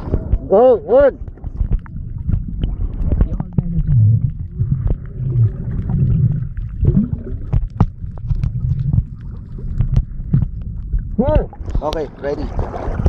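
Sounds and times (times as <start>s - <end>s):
underwater clicks and pops: 0.0s - 12.1s
muffled underwater rumble: 0.0s - 13.0s.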